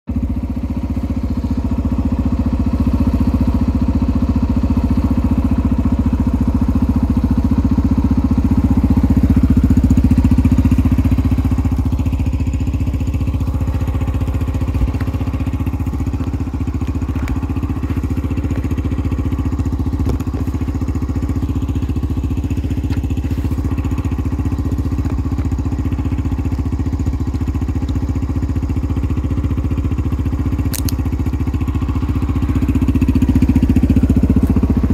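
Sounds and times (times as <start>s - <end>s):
dirt bike engine idling: 0.1s - 34.9s.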